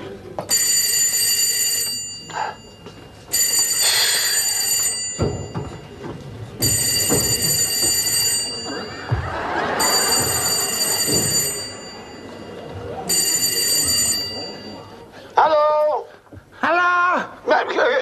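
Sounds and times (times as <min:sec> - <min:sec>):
telephone ringing: 0:00.5 - 0:15.1.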